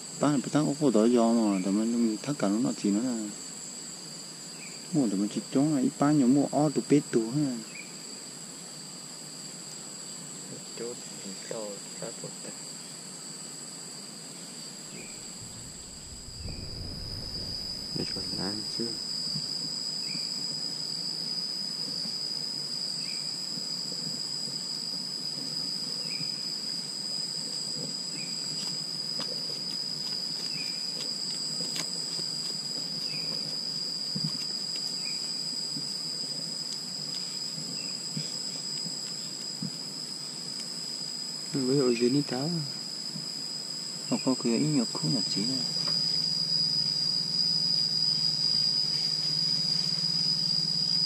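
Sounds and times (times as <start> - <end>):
insect chorus high tones: 0.0 - 51.0.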